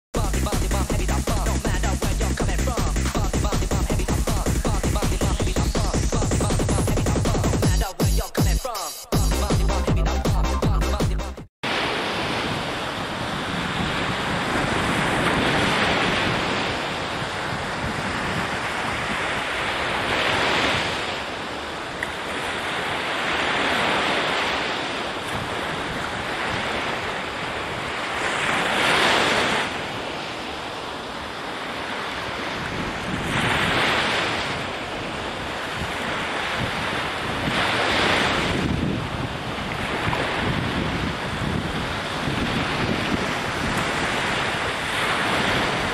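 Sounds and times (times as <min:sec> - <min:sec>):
ocean waves breaking: 0:00.2 - 0:45.9.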